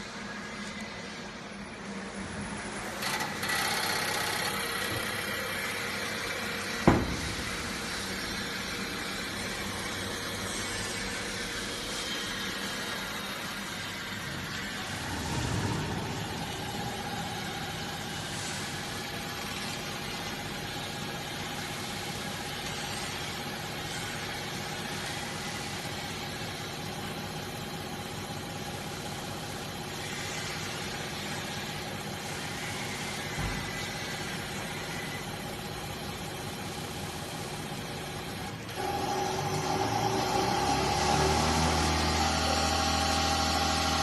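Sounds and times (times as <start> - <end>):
machine hum with whine: 0.0 - 44.0.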